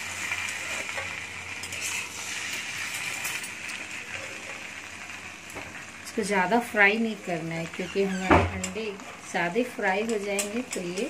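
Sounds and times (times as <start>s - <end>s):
potatoes and egg sizzling in pan: 0.0s - 11.0s.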